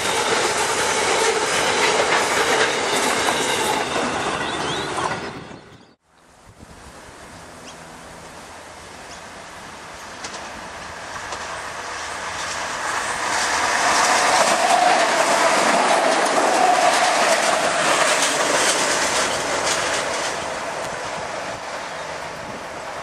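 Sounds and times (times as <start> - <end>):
wheels clicking over rail joints: 0.0 - 5.4, 9.9 - 23.0
diesel train passing: 0.0 - 23.0.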